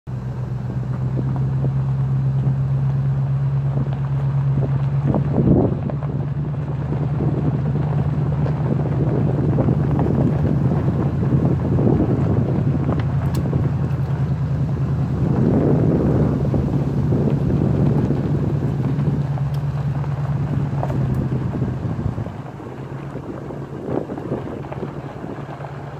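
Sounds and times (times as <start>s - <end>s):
car engine and tyres droning: 0.1s - 25.9s
gravel crunching: 0.1s - 25.9s.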